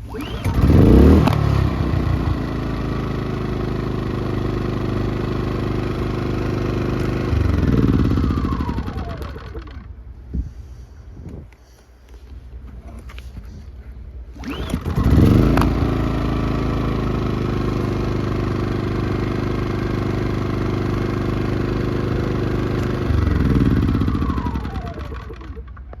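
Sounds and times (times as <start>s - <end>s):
engine winding down whine: 0.0s - 10.0s, 14.3s - 26.0s
generator engine running: 0.0s - 10.1s, 14.2s - 26.0s.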